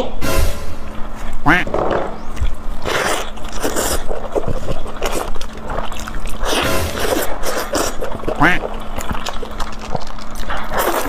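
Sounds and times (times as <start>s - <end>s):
chewing and biting ribs: 0.9s - 11.0s.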